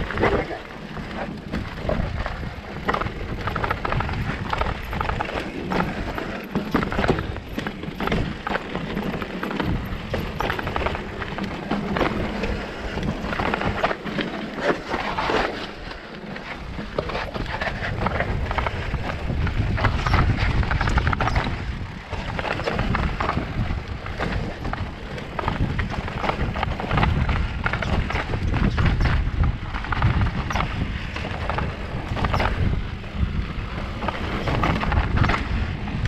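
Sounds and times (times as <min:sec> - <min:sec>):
bike clattering: 0:00.0 - 0:36.0.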